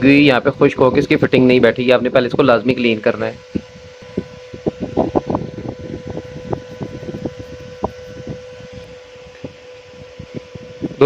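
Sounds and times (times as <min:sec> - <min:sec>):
high-pitched electrical hum: 0:00.0 - 0:11.0.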